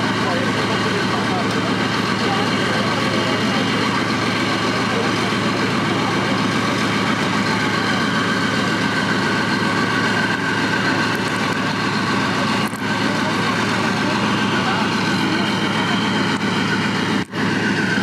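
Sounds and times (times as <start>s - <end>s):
diesel engine idling: 0.0s - 18.0s
indistinct voices: 0.0s - 18.0s.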